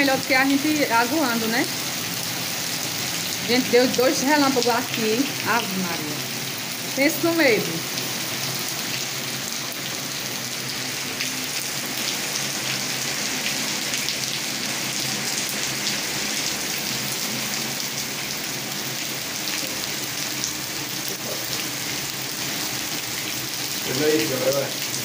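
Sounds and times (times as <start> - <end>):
heavy rain splashing into water: 0.0 - 25.0.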